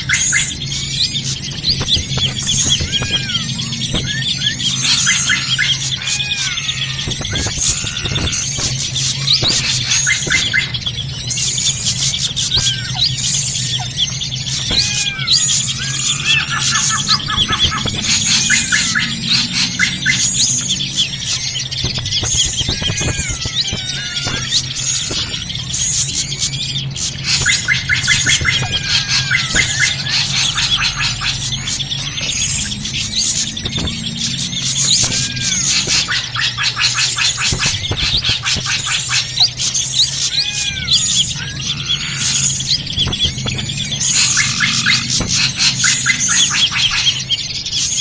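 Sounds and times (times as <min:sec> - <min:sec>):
birds chirping and whistling: 0:00.0 - 0:48.0
steady low hum: 0:00.0 - 0:48.0.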